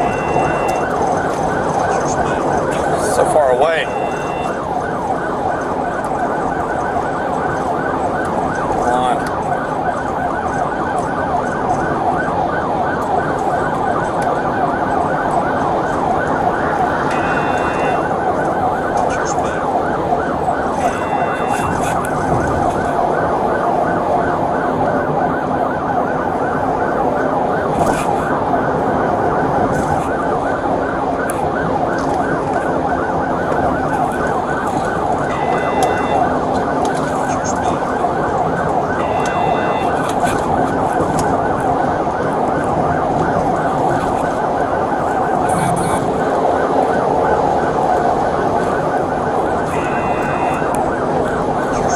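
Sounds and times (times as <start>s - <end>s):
police siren: 0.0s - 51.9s.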